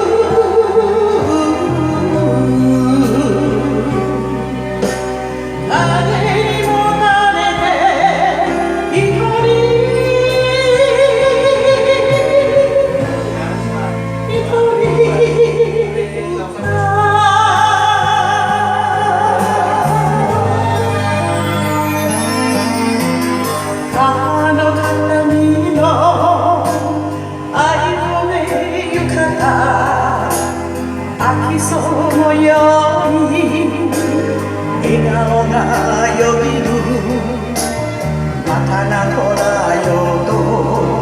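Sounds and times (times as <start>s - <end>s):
karaoke music with vibrato melody: 0.0s - 41.0s.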